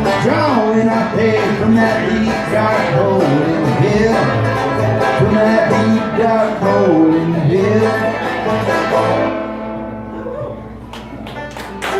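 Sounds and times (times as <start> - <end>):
banjo: 0.0 - 9.9
bluegrass band playing: 0.0 - 11.9
guitar: 0.0 - 11.9.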